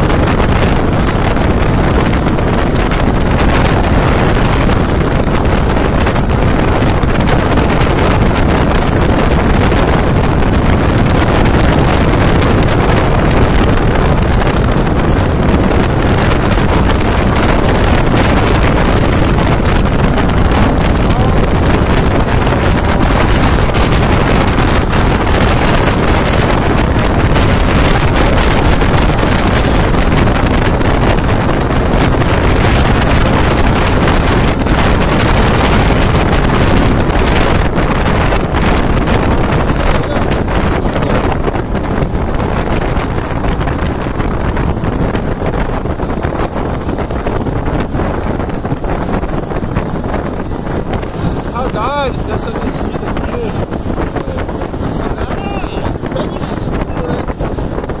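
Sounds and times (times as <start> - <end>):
motorcycle engine: 0.0 - 58.0
wind buffeting microphone: 0.0 - 58.0.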